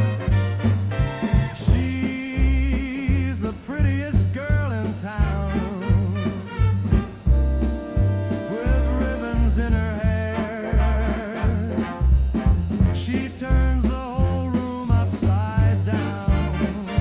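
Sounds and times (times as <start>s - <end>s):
swing dance band music: 0.0s - 17.0s.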